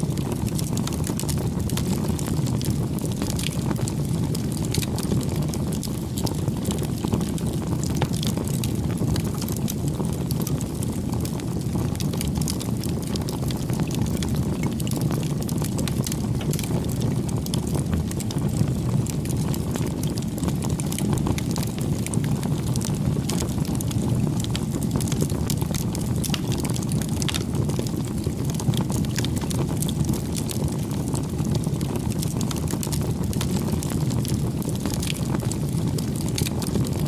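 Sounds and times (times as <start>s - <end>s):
wood crackling and popping: 0.0s - 37.0s
fire flames rushing: 0.1s - 37.0s.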